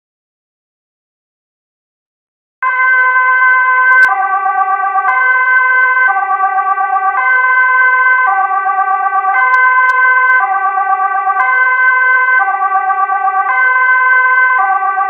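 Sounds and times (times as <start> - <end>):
electronic two-tone alarm: 2.6 - 15.0.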